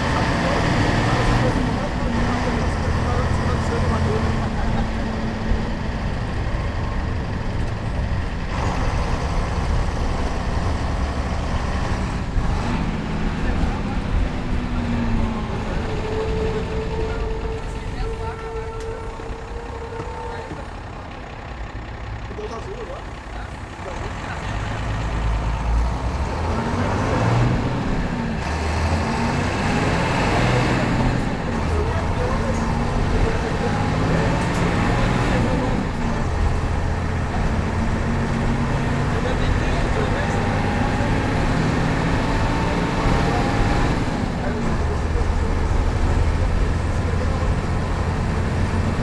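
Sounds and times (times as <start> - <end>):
bus diesel engine rumbling: 0.0 - 49.0.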